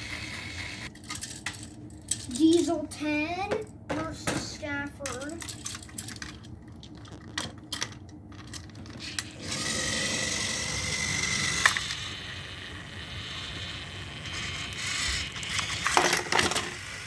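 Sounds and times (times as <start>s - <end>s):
toy train motors whirring: 0.0s - 2.9s, 4.4s - 17.0s
toy trains clattering: 0.0s - 17.0s.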